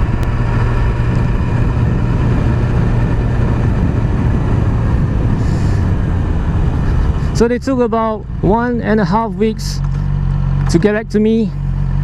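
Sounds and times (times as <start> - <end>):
motorcycle engine running steadily: 0.0 - 12.0
wind and road noise: 0.0 - 12.0.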